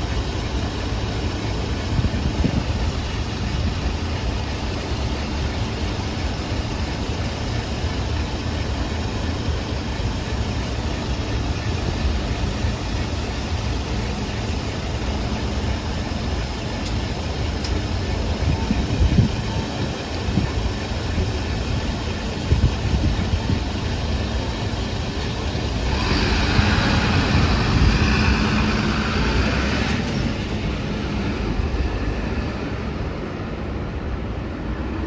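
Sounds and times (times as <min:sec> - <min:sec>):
bus diesel engine idling: 0:00.0 - 0:35.0.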